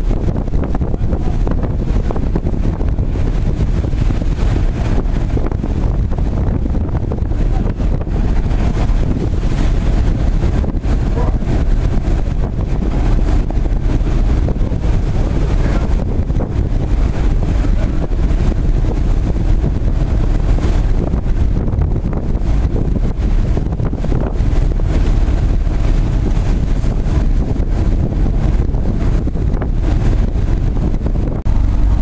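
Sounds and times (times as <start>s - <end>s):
tugboat engines rumbling: 0.0s - 32.0s
water washing along hulls: 0.0s - 32.0s
wind buffeting microphone: 0.0s - 32.0s.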